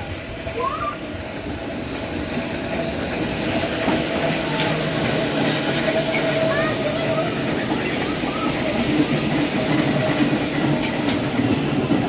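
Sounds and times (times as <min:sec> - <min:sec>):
subway train on track: 0:00.0 - 0:12.0
train whine: 0:00.0 - 0:12.0.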